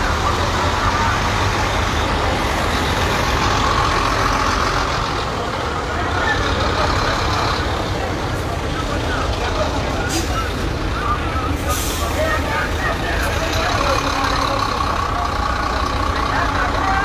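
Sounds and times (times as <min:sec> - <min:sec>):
people's voices: 0:00.0 - 0:17.0
traffic rumbling: 0:00.0 - 0:17.0.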